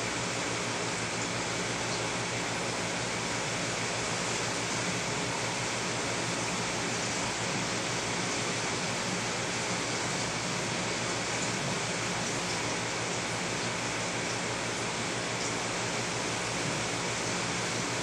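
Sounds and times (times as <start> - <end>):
aquarium water rushing: 0.0 - 18.0.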